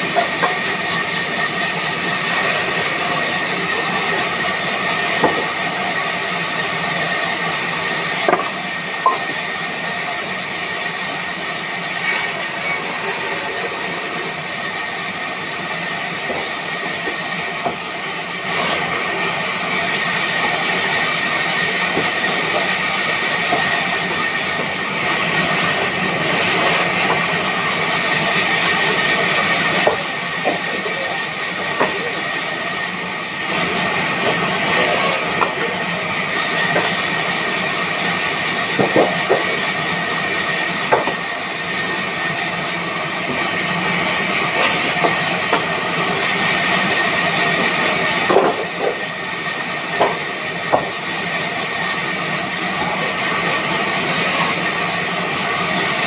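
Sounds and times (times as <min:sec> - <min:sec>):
sawmill machinery whining: 0:00.0 - 0:56.0.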